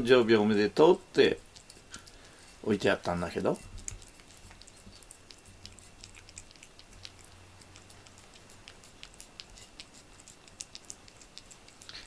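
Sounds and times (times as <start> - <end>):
cat licking and chewing: 0.7 - 12.0.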